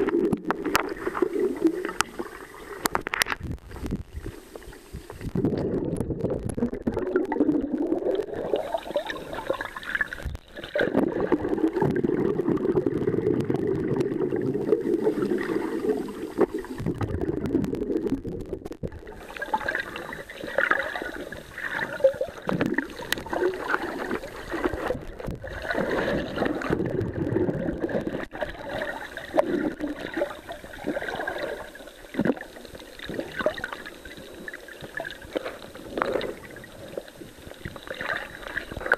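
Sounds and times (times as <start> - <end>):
muffled underwater water churning: 0.0 - 38.9
water sloshing and bubbling: 0.0 - 38.9.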